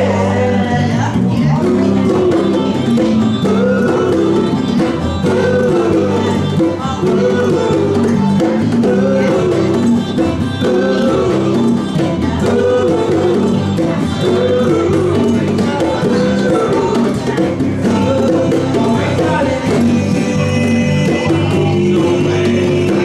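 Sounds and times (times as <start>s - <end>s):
small live band playing: 0.0s - 23.0s.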